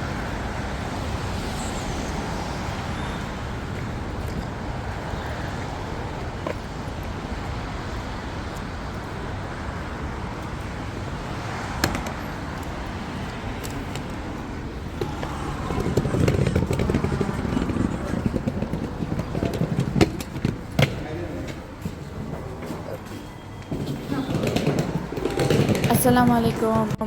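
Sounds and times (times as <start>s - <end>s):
low vehicle rumble: 0.0s - 27.0s
road traffic noise: 0.0s - 27.0s.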